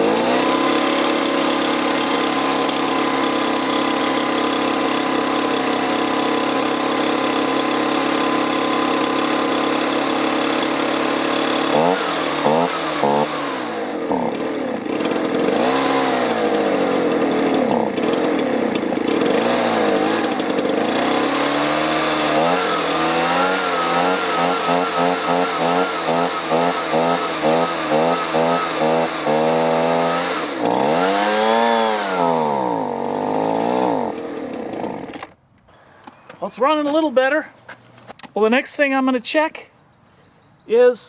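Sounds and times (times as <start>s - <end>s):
leaf blower engine revving: 0.0s - 35.4s.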